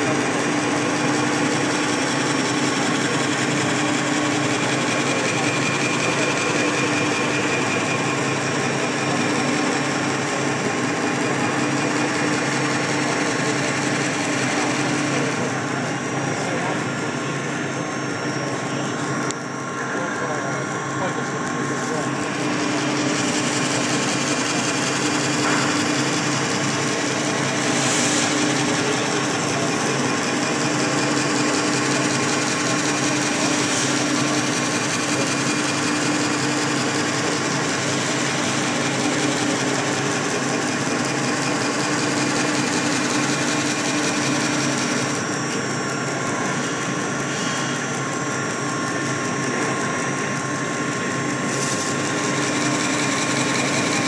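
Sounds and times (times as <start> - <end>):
machine hum: 0.0 - 54.0.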